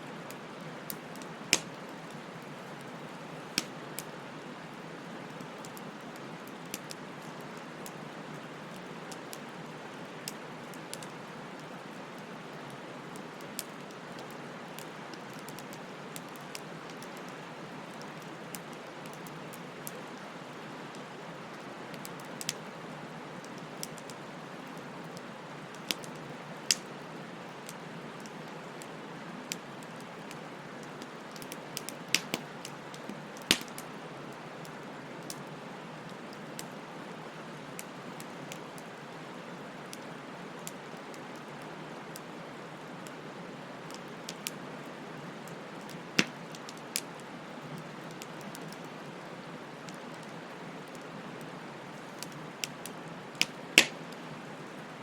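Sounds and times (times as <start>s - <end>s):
wood fire crackling: 0.1s - 55.0s.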